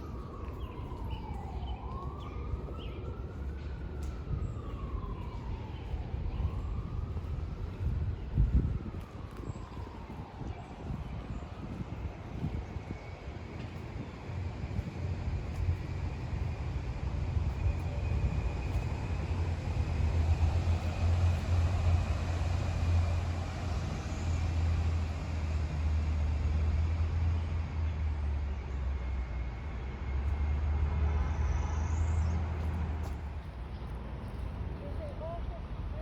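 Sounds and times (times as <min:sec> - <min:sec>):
distant traffic rumble: 0:00.0 - 0:36.0.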